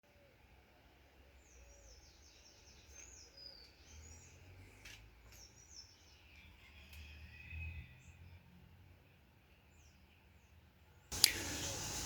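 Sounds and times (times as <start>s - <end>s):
birds chirping: 0.1s - 8.4s, 9.5s - 12.0s.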